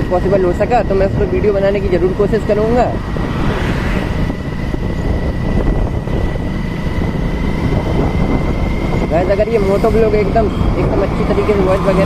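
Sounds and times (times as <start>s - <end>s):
motorcycle running: 0.0s - 12.0s
wind buffeting microphone: 0.0s - 12.0s.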